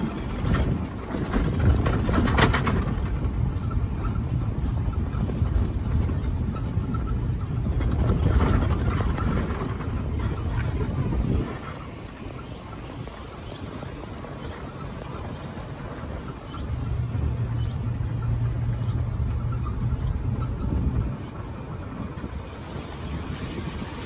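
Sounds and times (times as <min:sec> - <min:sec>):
golf cart rumbling: 0:00.0 - 0:24.0
wind buffeting microphone: 0:00.0 - 0:24.0.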